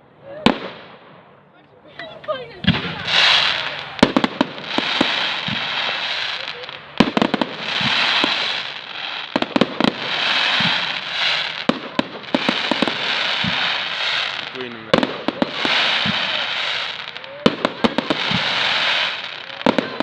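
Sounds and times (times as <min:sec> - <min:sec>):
hiss of burning fireworks: 0:00.2 - 0:20.0
firework shells bursting: 0:02.0 - 0:20.0.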